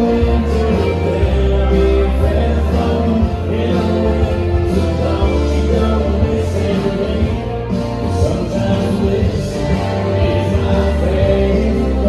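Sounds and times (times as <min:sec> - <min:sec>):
bass line: 0:00.0 - 0:12.0
person singing: 0:00.0 - 0:12.0.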